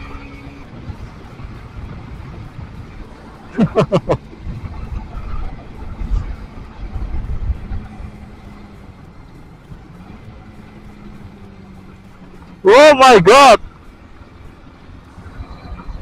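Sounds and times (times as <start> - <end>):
motorcycle road and wind noise: 0.0 - 16.0.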